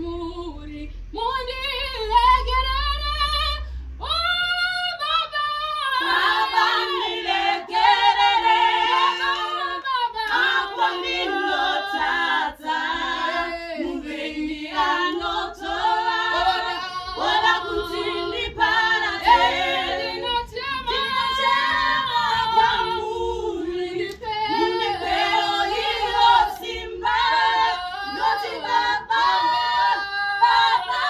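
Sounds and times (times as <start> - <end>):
women singing a cappella: 0.0 - 31.0.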